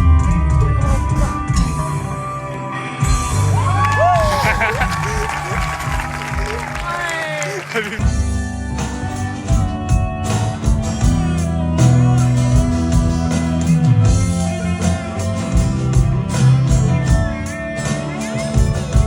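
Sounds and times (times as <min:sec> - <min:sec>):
electric guitar: 0:00.0 - 0:19.0.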